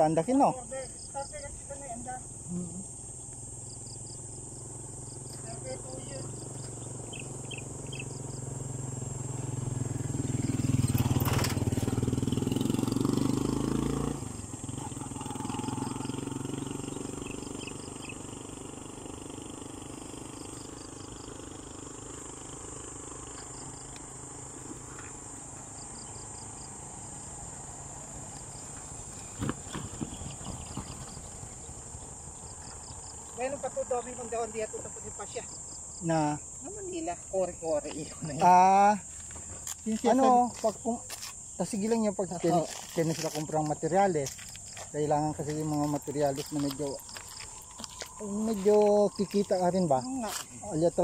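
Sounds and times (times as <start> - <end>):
faint engine: 0.0 - 51.0
insect chirps: 0.0 - 51.0
insects buzzing: 0.0 - 51.0
motorcycle engine passing: 1.3 - 51.0.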